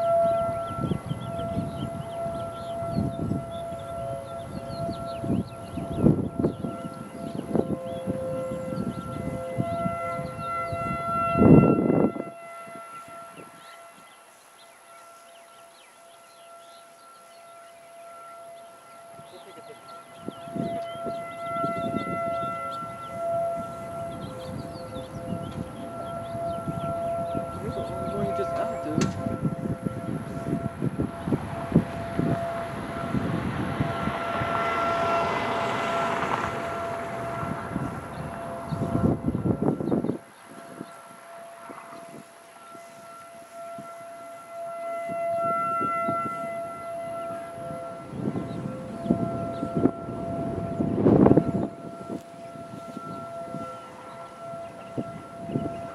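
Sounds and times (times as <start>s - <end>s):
distant warning sirens: 0.0s - 55.9s.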